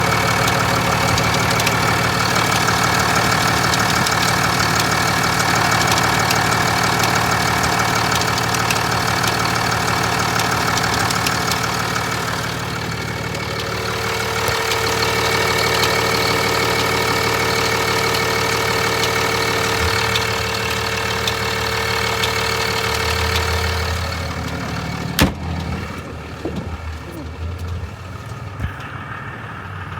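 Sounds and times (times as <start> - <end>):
diesel engine idling: 0.0 - 29.9
rapid engine ticking: 0.0 - 29.9.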